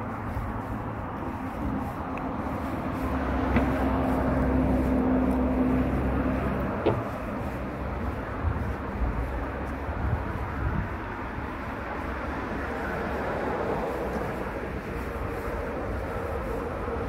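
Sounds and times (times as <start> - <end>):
low motor hum: 0.0 - 17.0
outdoor background noise: 0.0 - 17.0.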